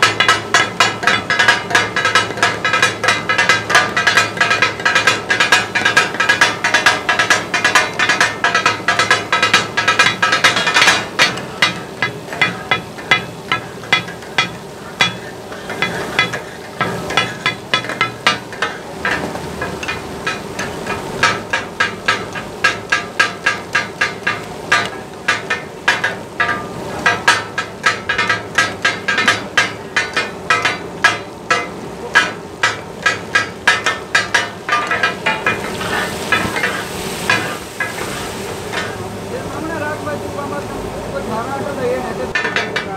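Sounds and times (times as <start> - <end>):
metal spatulas clanging on griddle: 0.0 - 39.9, 41.8 - 42.9
oil sizzling: 0.0 - 40.6.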